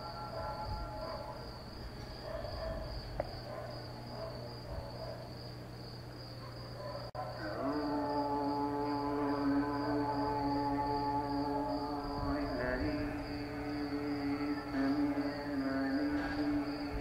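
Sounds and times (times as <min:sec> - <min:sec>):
distant calls to prayer: 0:00.0 - 0:05.6, 0:06.3 - 0:17.0
cicadas droning: 0:00.0 - 0:17.0.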